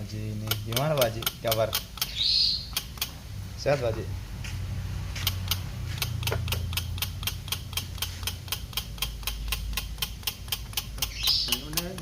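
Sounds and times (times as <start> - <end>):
rapid even ticking: 0.0 - 3.7, 5.1 - 12.0
steady low hum: 0.0 - 12.0.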